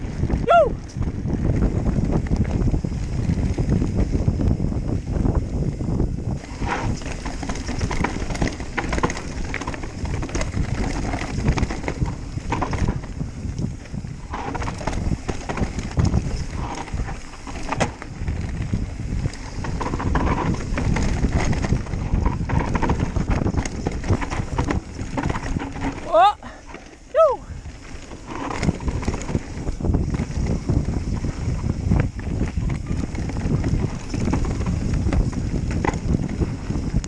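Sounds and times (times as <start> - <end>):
bike rattling over bumps: 0.0 - 37.0
bike tyres on dirt: 0.0 - 37.0
wind on microphone: 0.0 - 37.0.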